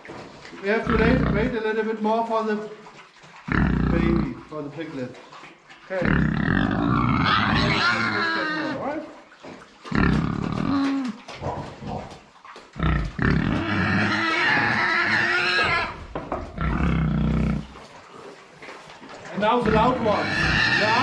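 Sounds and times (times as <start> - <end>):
pigs squealing and grunting: 0.0 - 1.8, 2.8 - 21.0.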